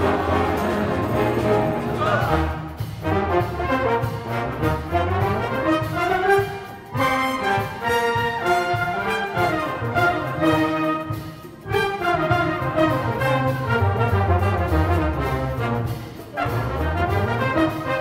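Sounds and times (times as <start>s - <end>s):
orchestra playing: 0.0s - 18.0s.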